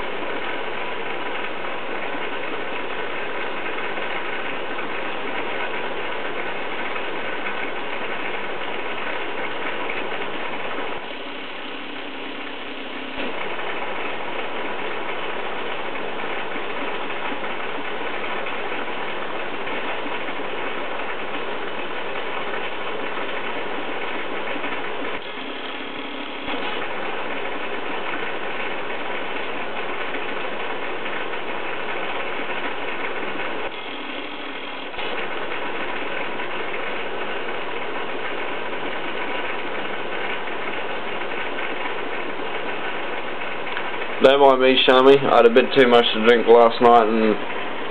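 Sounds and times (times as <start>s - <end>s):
air pump rattling: 0.0s - 47.9s.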